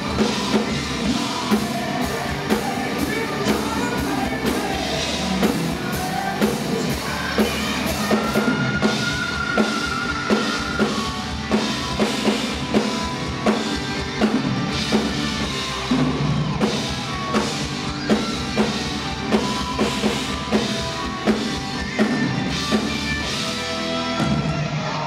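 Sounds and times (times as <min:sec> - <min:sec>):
drum kit heavy beat: 0:00.0 - 0:25.0
hard rock band playing live: 0:00.0 - 0:25.0.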